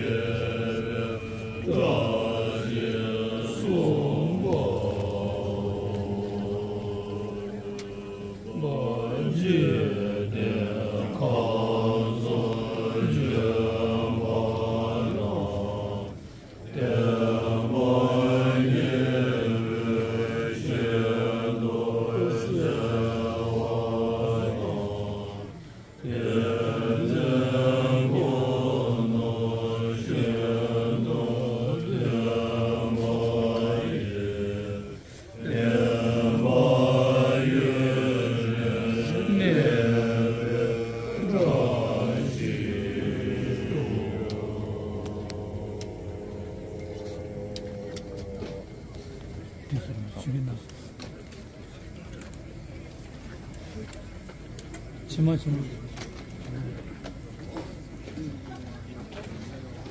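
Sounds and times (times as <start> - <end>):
monks chanting in low voices: 0.0 - 59.9.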